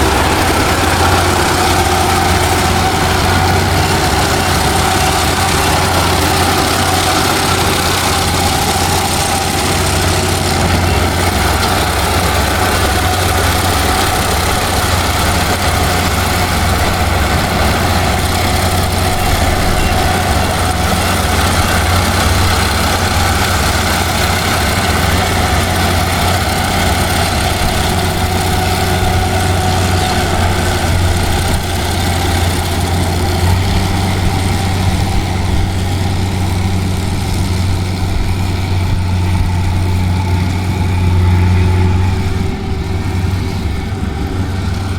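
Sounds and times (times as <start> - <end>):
combine harvester diesel engine: 0.0 - 44.9.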